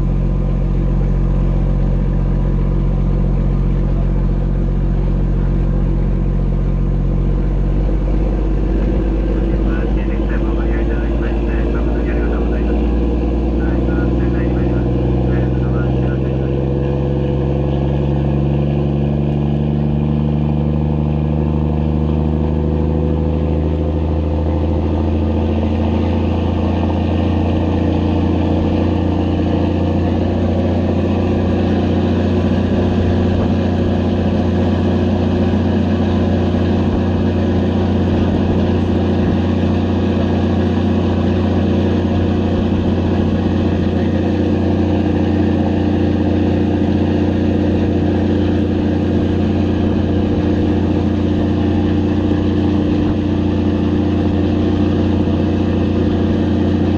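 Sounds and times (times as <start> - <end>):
boat engine droning: 0.0 - 56.9.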